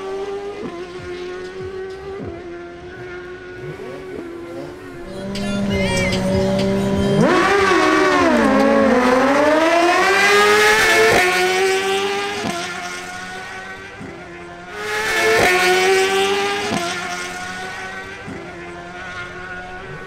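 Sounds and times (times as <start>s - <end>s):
motorcycle engines at full throttle: 0.0s - 20.0s.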